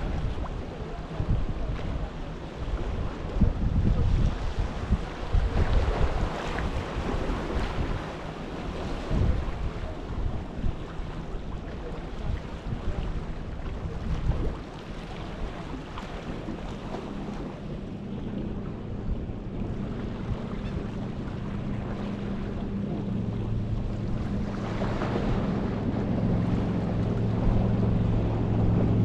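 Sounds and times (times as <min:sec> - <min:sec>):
low engine hum: 0:00.0 - 0:29.0
sea waves washing: 0:00.0 - 0:29.0
wind buffeting microphone: 0:00.0 - 0:29.0.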